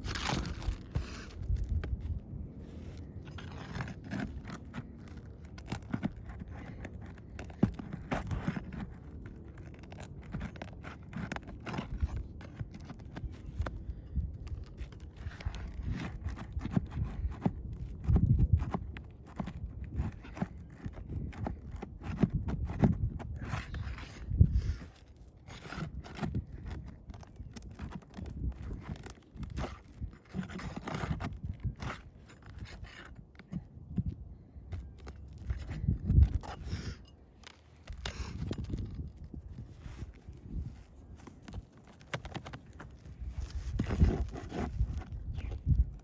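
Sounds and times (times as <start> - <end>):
pry bar scraping shingles: 0.0 - 45.9.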